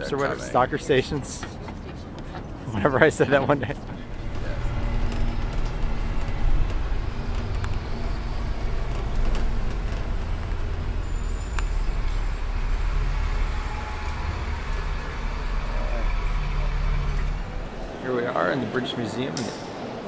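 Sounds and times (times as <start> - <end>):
distant city traffic rumble: 0.0 - 20.0.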